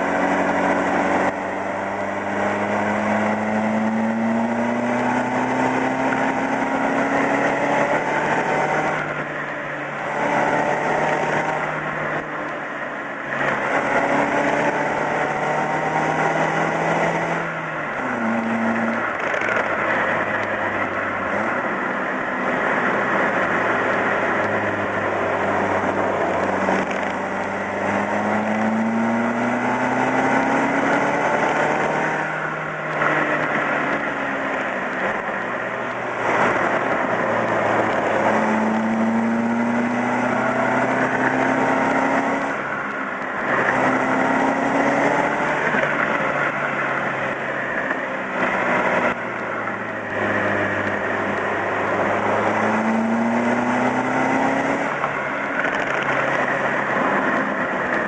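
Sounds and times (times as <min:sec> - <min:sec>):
road and wind noise: 0:00.0 - 0:58.0
vehicle engine revving: 0:00.0 - 0:58.0.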